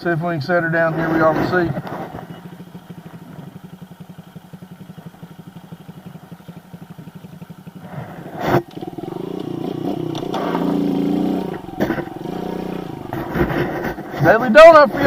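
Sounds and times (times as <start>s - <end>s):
small motorbike engine idling and revving: 0.0s - 15.0s.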